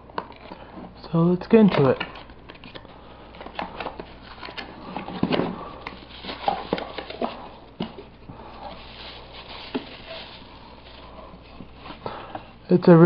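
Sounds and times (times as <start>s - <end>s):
plastic bag rustling: 1.4s - 12.7s
cardboard packaging being opened: 1.6s - 12.2s.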